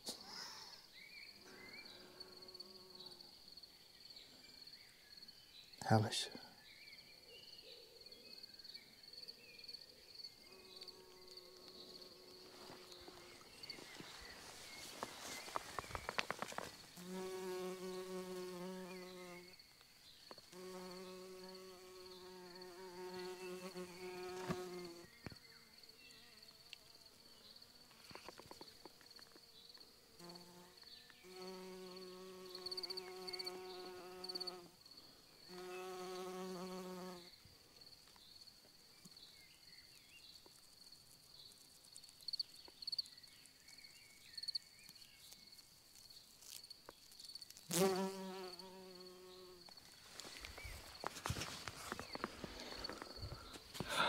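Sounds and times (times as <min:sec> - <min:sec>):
flying insect buzzing: 0:01.6 - 0:03.6, 0:10.3 - 0:38.2, 0:40.4 - 0:54.0.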